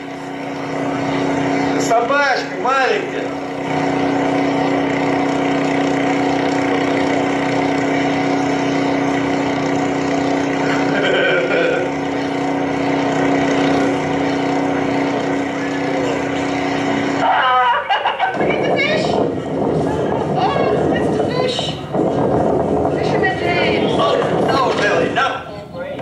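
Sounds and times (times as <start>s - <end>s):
motor hum with pitched drone: 0.0s - 26.0s.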